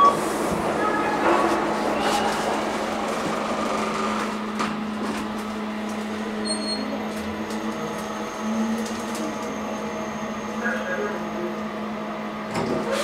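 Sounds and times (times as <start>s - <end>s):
elevator motor hum: 0.0s - 12.5s.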